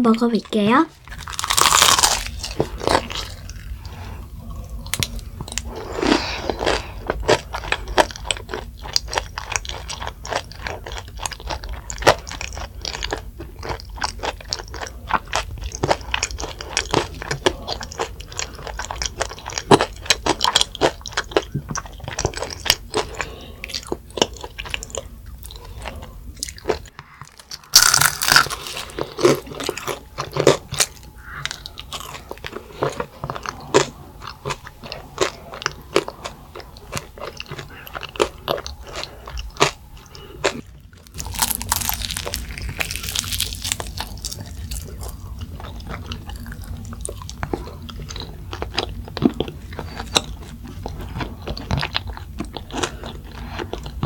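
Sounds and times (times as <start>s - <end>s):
crunching fried chicken: 1.1s - 54.0s.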